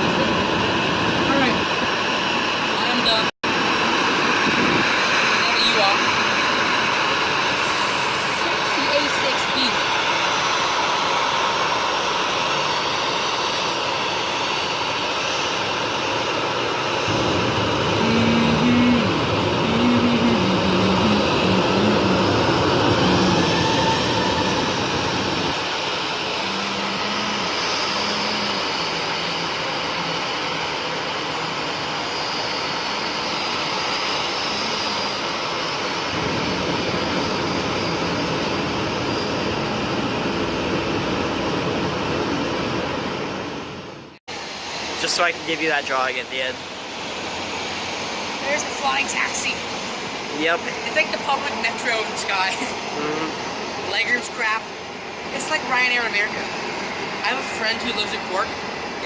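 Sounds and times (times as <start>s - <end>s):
high jet engine whine: 0.0s - 59.0s
jet engine roar: 0.0s - 59.0s.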